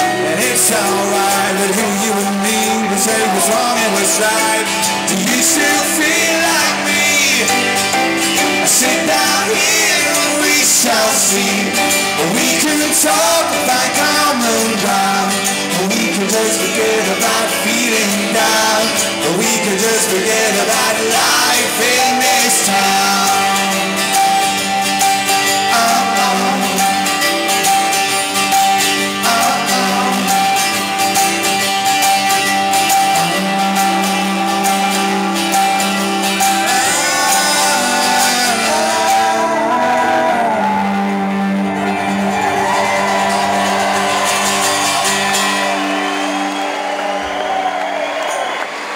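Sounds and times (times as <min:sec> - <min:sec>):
person singing: 0:00.0 - 0:47.6
live rock band playing: 0:00.0 - 0:48.9.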